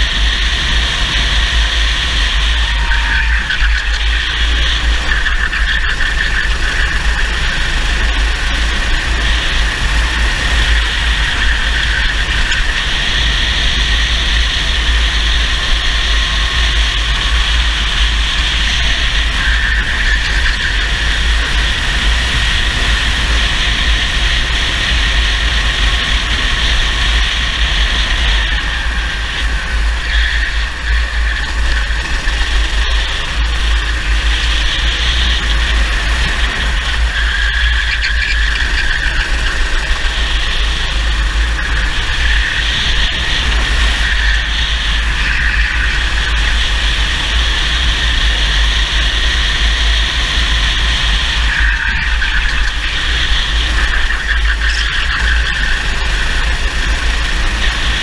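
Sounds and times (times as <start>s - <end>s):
kart engine whining at high revs: 0.0s - 58.0s
wind rumble on microphone: 0.0s - 58.0s.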